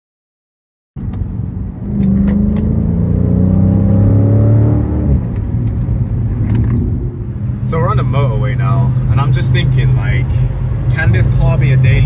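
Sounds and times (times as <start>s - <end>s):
car engine accelerating: 1.0s - 12.0s.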